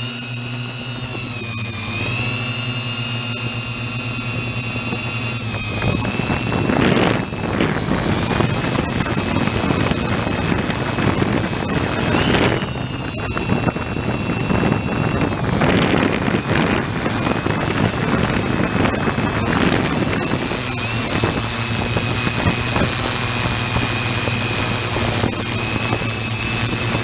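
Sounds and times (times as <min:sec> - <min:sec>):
drone propellers whining: 0:00.0 - 0:27.0
wind buffeting microphone: 0:00.2 - 0:27.0.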